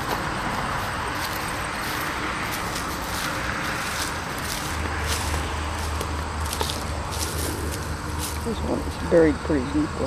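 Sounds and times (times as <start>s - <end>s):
soft steps on grass: 0.0s - 8.8s
distant traffic rushing: 0.0s - 10.0s.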